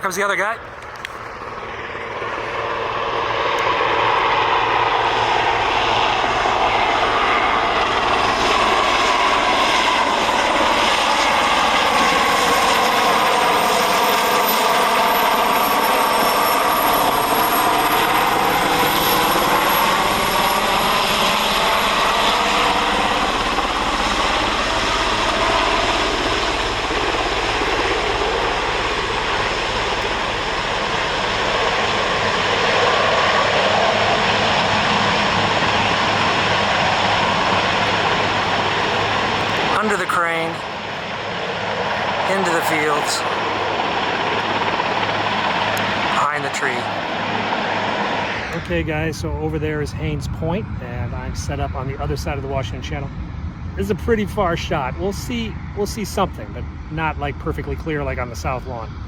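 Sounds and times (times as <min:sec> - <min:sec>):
helicopter rotor and turbine: 0:00.0 - 0:59.0.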